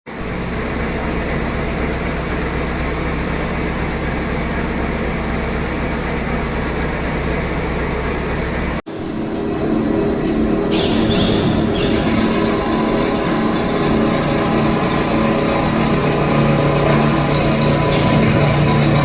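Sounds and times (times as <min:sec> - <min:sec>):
workshop machinery drone: 0:00.1 - 0:19.0.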